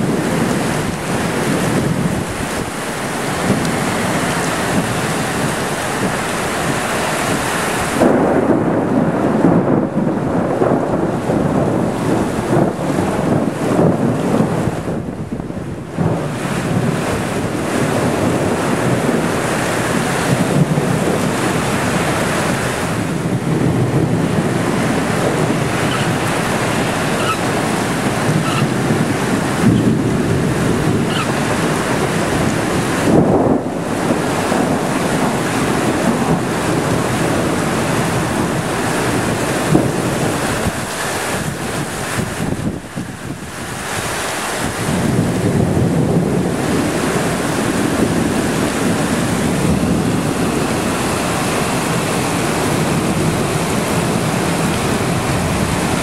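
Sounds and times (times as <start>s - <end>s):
torrential rain: 0.0s - 56.0s
wind buffeting microphone: 0.0s - 56.0s.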